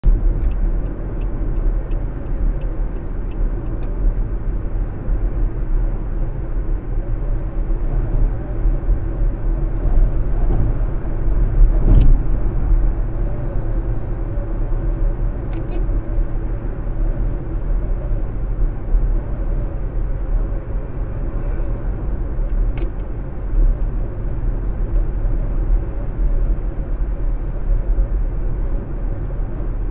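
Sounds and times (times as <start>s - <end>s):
car engine and tyre rumble: 0.0s - 29.9s.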